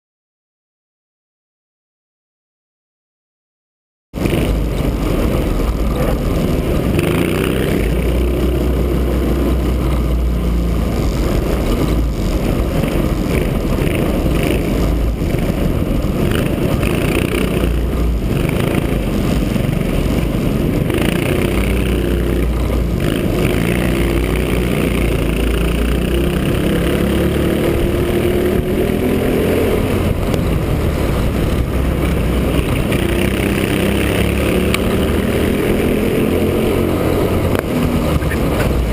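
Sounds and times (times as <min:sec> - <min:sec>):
kart engines droning: 0:04.2 - 0:38.9.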